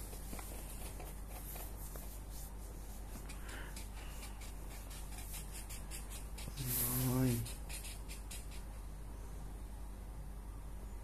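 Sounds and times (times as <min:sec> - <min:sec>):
marker scribbling on paper: 0:00.0 - 0:08.8.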